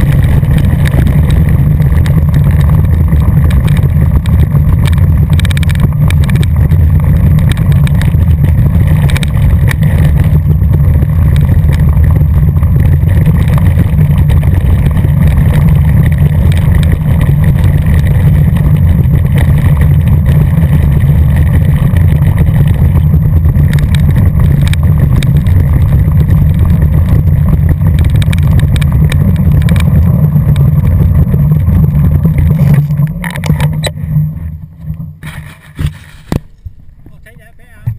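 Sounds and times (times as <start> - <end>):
bike tyres rolling on gravel: 0.0 - 37.9
stones crunching and ticking: 0.0 - 37.9
wind buffeting microphone: 0.0 - 37.9.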